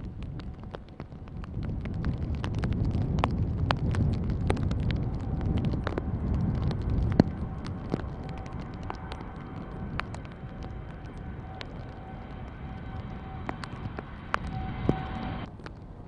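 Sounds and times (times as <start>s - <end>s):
faint steady whine: 0.0s - 16.0s
sharp crackles: 0.0s - 16.0s
wind buffeting microphone: 0.0s - 16.0s.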